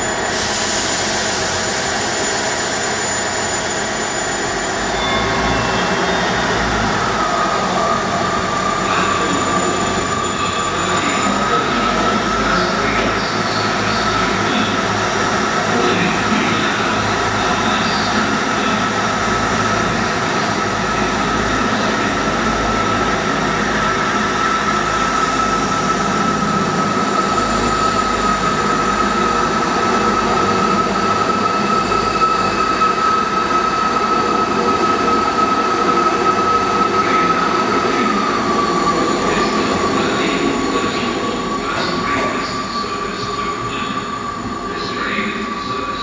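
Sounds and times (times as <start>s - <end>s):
diesel train engines pulling away: 0.0s - 46.0s.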